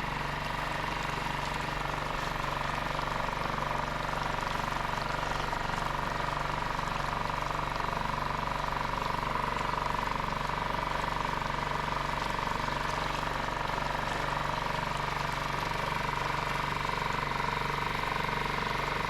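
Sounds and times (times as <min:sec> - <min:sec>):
small outboard motor running: 0:00.0 - 0:19.0.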